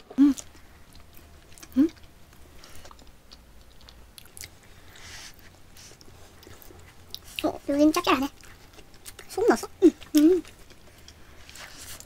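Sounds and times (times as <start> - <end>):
quiet chewing: 0.0 - 12.0.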